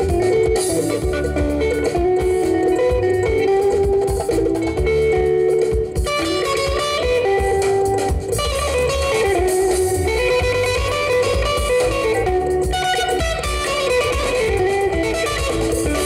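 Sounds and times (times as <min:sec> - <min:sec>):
electric guitar melody: 0:00.0 - 0:16.0
live band music: 0:00.0 - 0:16.0.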